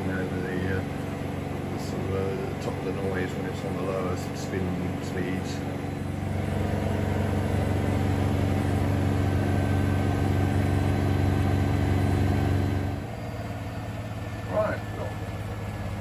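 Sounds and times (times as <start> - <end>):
washing machine spinning hum: 0.0 - 16.0.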